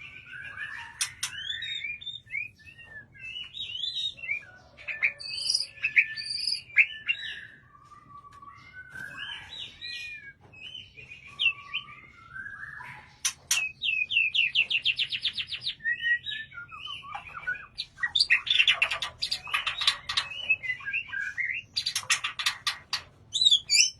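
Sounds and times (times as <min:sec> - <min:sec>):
bird singing whistled phrases: 0:00.0 - 0:22.0.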